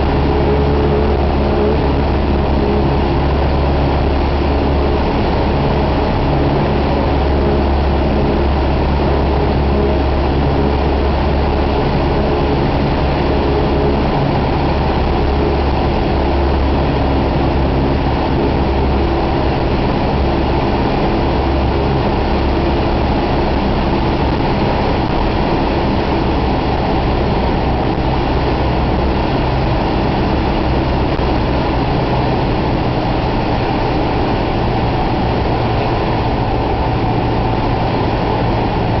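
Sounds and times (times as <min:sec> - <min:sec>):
airplane engine drone in cabin: 0:00.0 - 0:39.0.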